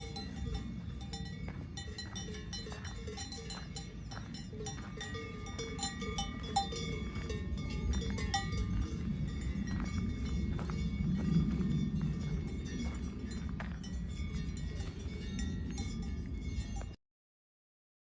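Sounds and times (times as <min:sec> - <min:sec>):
cowbells clanking: 0:00.0 - 0:17.0
steady low rumble: 0:00.0 - 0:17.0.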